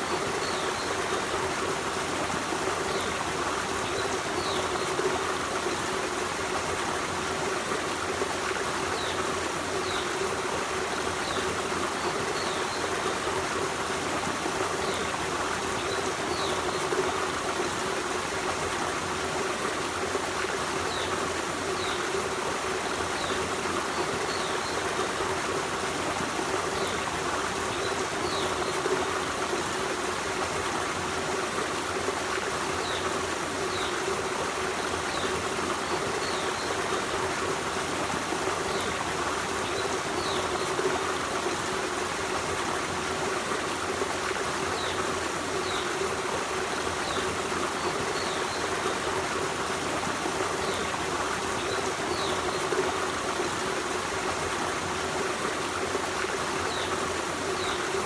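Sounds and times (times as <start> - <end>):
stream running water: 0.0 - 58.0.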